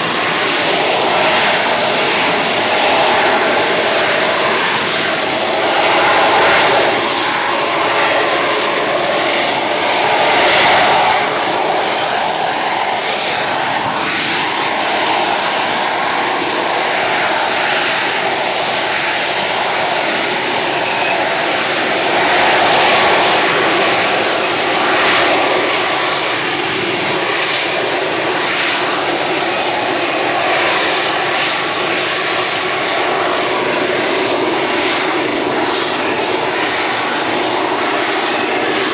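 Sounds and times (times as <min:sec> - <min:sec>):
airplane engine flying past: 0:00.0 - 0:38.9.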